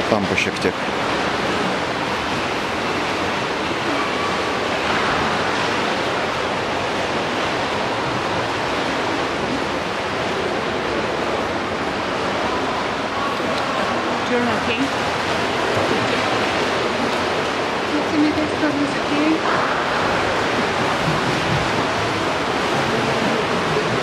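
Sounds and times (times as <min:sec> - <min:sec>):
rushing water in swimming pool: 0:00.0 - 0:24.0.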